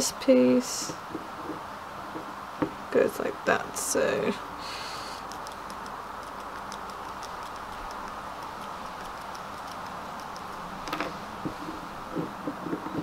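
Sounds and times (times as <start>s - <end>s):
steady hiss: 1.7s - 13.0s.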